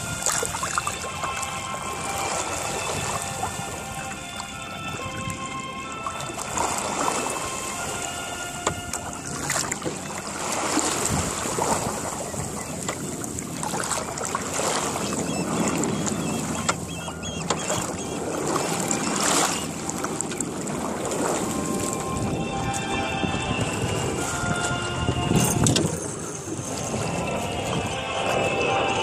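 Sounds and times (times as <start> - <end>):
water rushing along boat hull: 0.0 - 29.0.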